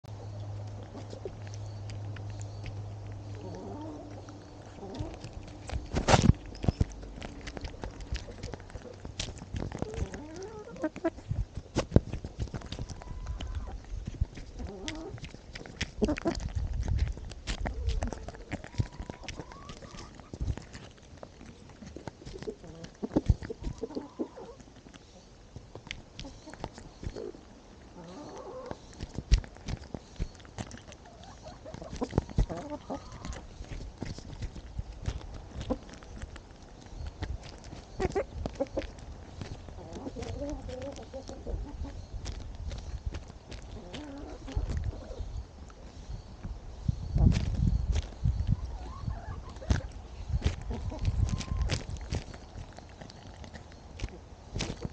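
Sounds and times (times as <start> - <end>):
chickens clucking: 0.1 - 54.9
beaks pecking at microphone: 0.2 - 54.9.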